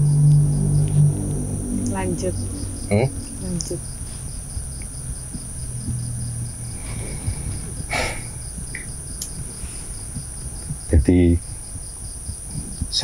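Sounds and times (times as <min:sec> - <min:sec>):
crickets chirping: 0:00.0 - 0:13.0
low steady hum: 0:00.0 - 0:13.0.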